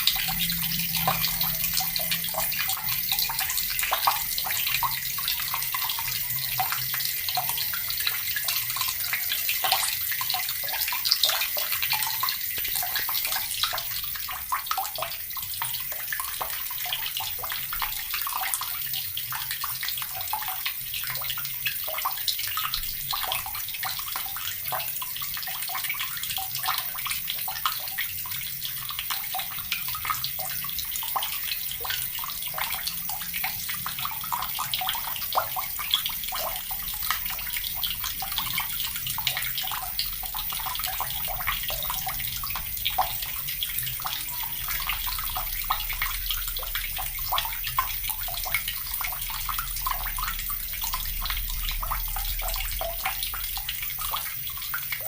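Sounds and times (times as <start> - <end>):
tap water running and splashing: 0.0 - 55.0.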